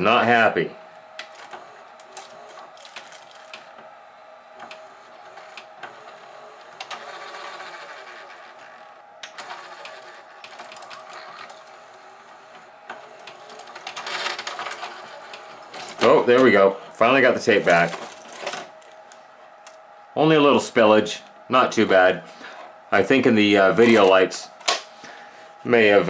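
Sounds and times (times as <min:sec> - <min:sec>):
tape mechanism whirring: 0:00.0 - 0:20.0, 0:21.3 - 0:25.2.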